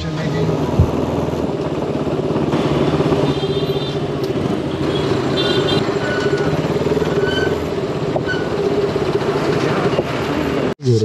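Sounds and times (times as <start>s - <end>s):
motorcycle engine rumble: 0.3s - 10.7s.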